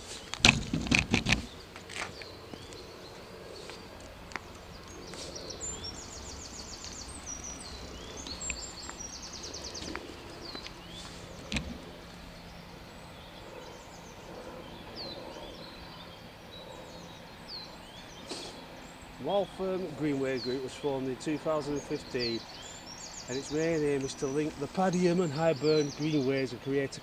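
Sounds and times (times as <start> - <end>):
small birds singing: 0.0 - 27.0.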